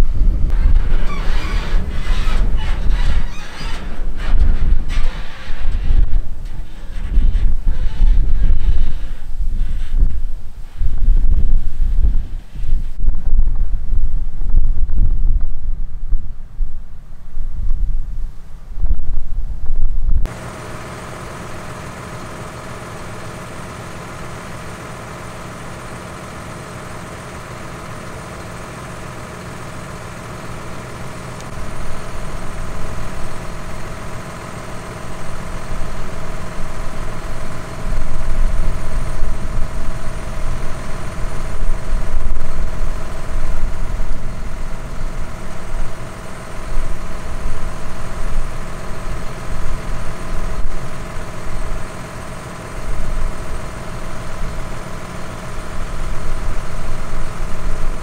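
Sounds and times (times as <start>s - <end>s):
diesel farm machinery running: 0.0s - 18.8s, 19.4s - 58.0s.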